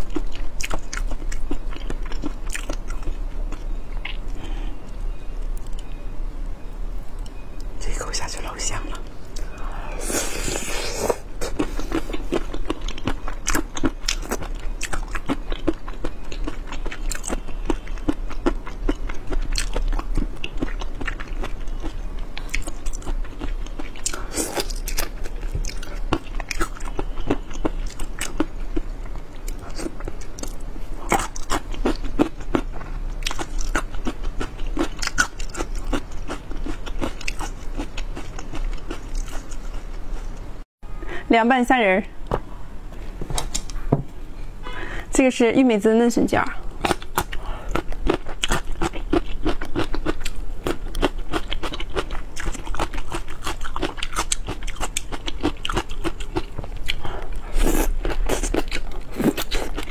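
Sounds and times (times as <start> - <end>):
crunching and chewing: 0.0 - 5.9, 9.2 - 40.5, 46.6 - 59.9.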